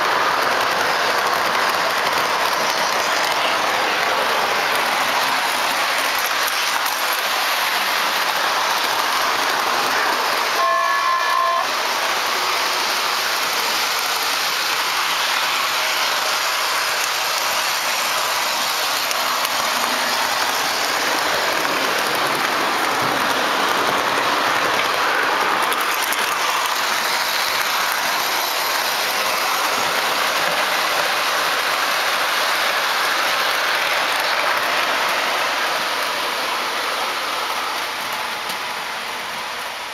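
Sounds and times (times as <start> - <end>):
model train rumbling on track: 0.0 - 39.9.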